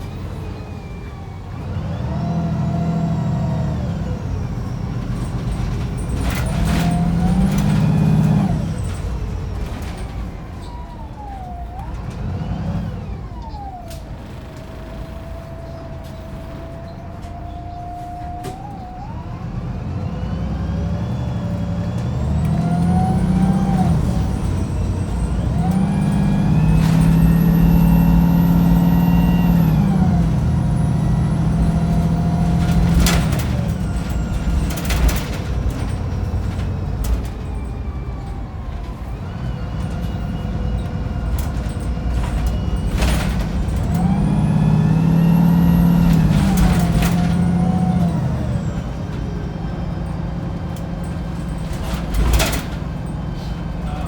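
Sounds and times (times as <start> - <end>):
bus diesel engine accelerating: 0.0 - 54.0.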